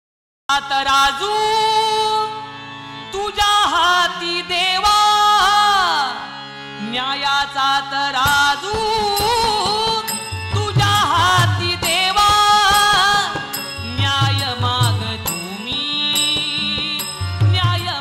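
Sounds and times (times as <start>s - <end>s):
harmonium melody: 0.5s - 18.0s
person singing: 3.2s - 18.0s.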